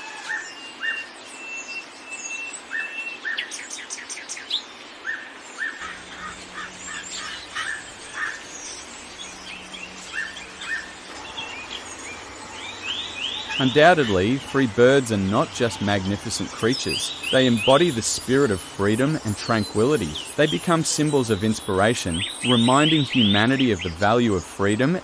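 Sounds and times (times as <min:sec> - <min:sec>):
songbirds chirping: 0:00.0 - 0:25.0
steady background hiss: 0:00.0 - 0:25.0.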